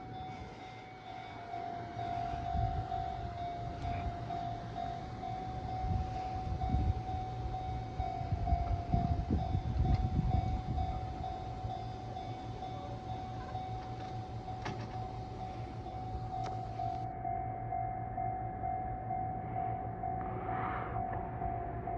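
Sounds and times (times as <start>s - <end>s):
level crossing bell ringing: 0.0s - 19.5s
train passing with wheel knocks: 0.0s - 21.9s.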